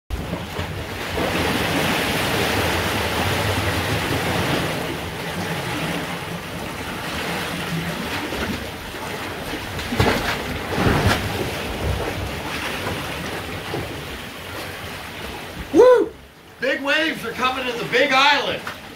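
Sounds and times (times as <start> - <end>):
sharp water splashes: 0.1 - 15.7
ocean waves rushing against rock: 0.1 - 18.9.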